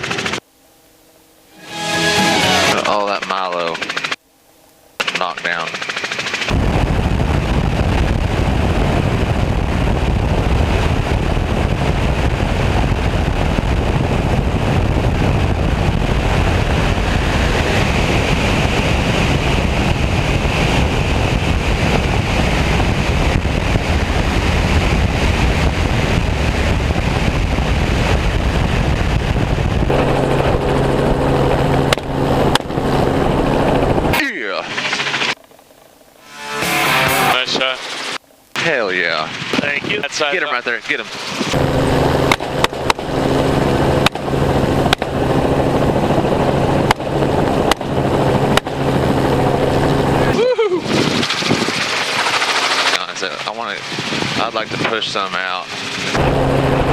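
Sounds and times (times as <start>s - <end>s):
steady humming tone: 0.0s - 5.5s, 6.5s - 51.2s, 51.8s - 56.9s
helicopter rotor and engine: 0.0s - 36.3s, 36.9s - 56.9s
rushing wind: 5.8s - 36.3s, 37.1s - 56.9s.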